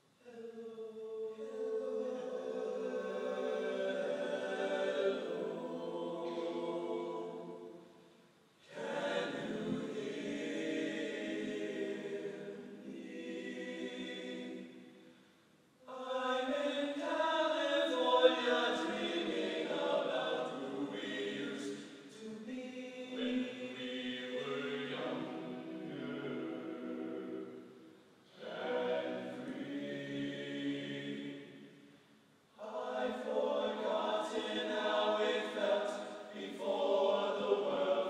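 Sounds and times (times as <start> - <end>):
male a cappella group singing: 0.2 - 7.8, 8.6 - 14.9, 15.8 - 27.5, 28.3 - 31.6, 32.6 - 38.0.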